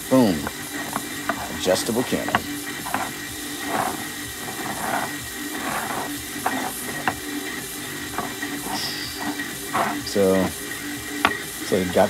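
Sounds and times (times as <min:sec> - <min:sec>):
plastic toy scraping on table: 0:00.2 - 0:12.0.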